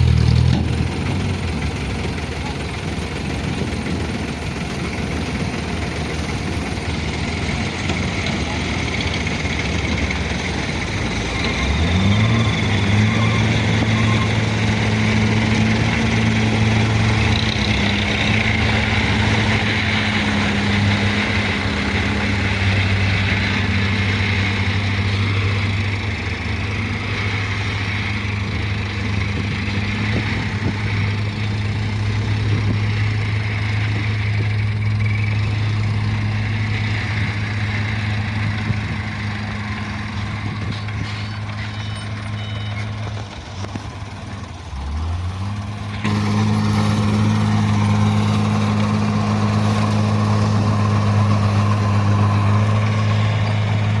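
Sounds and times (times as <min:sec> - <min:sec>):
diesel truck engine humming: 0:00.0 - 0:54.0.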